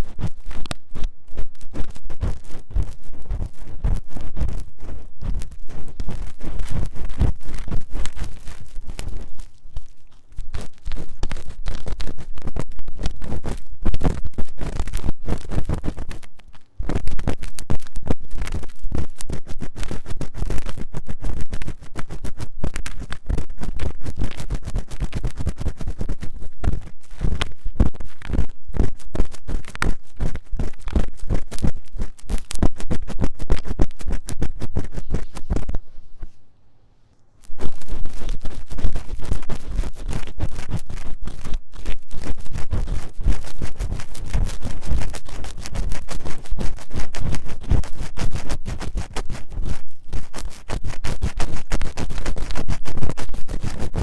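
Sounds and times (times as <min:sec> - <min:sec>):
scratching on microphone: 0:00.0 - 0:36.6, 0:37.2 - 0:54.0.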